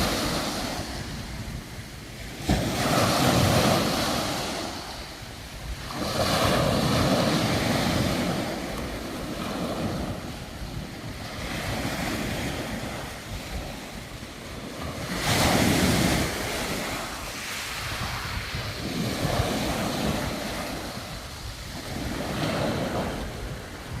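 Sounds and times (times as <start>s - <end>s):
sea waves washing ashore: 0.0s - 24.0s
wind buffeting microphone: 0.0s - 24.0s.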